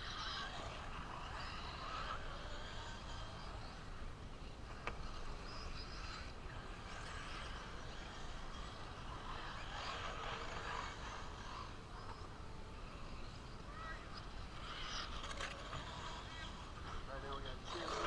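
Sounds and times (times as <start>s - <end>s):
rc car motor and tyre noise: 0.0s - 18.0s.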